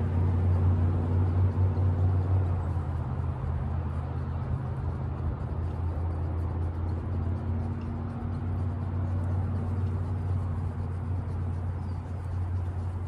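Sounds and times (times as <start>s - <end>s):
vehicle engine humming: 0.0s - 13.0s
wind noise: 0.0s - 13.0s.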